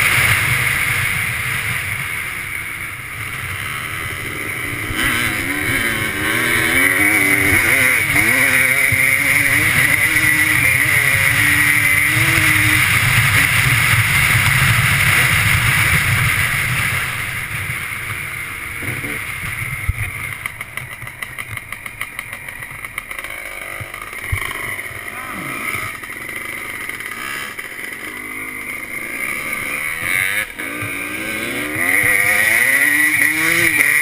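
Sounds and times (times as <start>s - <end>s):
two-stroke engine revving: 0.0s - 34.0s.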